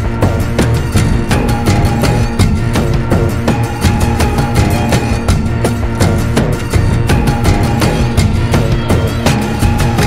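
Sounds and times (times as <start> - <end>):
background music with steady beat: 0.0 - 10.0
strong bass line: 0.0 - 10.0.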